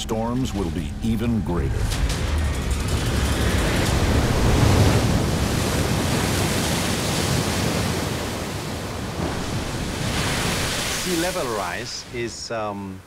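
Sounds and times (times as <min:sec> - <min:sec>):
waves crashing: 0:00.5 - 0:13.0.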